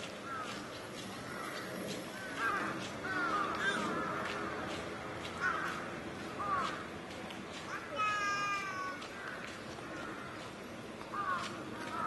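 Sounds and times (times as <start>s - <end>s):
steady background hum: 0.0s - 12.0s
crows cawing: 0.1s - 6.9s, 7.7s - 12.0s.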